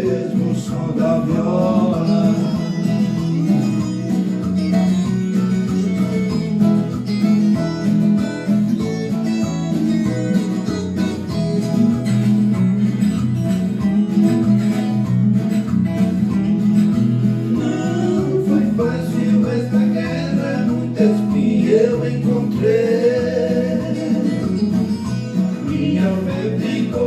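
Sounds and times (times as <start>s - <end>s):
plucked ten-string guitar: 0.0s - 27.0s.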